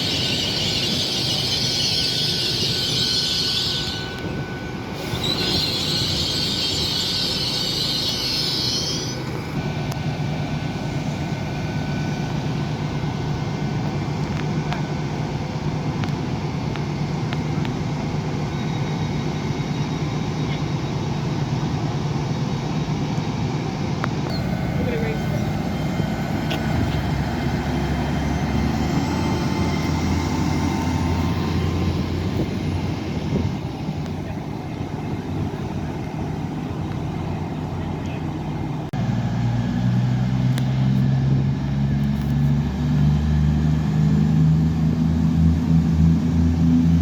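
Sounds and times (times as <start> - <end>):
high-pitched train noise: 0.0 - 47.0
low diesel engine drone: 0.0 - 47.0.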